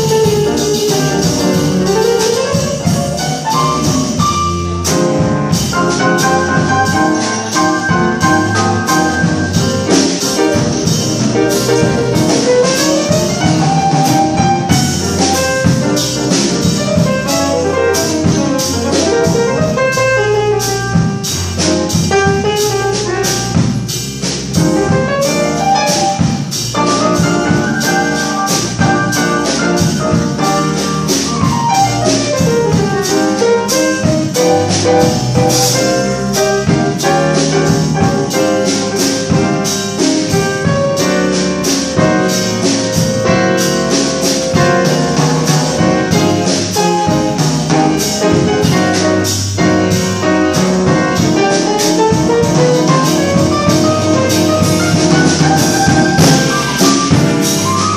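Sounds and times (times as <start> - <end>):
double bass: 0.0 - 57.9
drum kit steady beat: 0.0 - 57.9
piano: 0.0 - 57.9.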